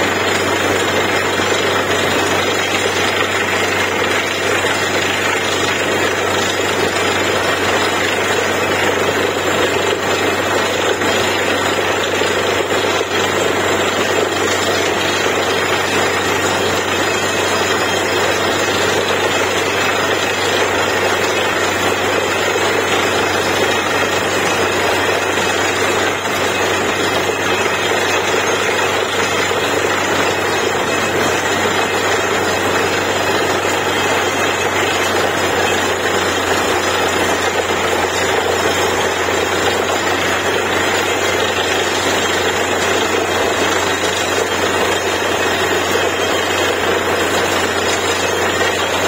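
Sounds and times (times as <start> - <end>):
drilling rig running: 0.0 - 49.0.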